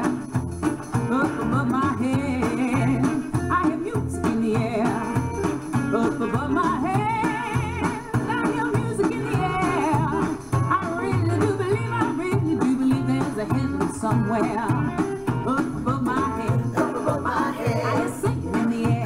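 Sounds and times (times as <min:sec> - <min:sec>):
instrumental accompaniment with beat: 0:00.0 - 0:19.0
woman singing with vibrato: 0:01.0 - 0:19.0.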